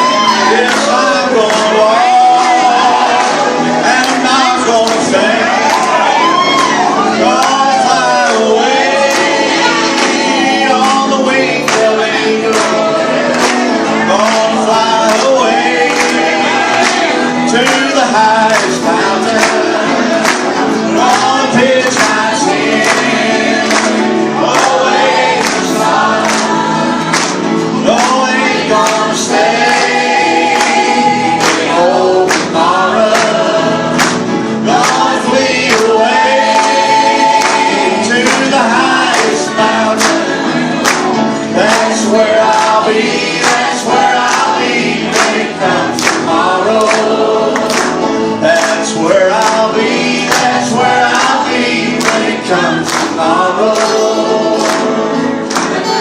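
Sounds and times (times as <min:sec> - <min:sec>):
choir singing: 0:00.0 - 0:56.0
lead singer: 0:00.0 - 0:56.0.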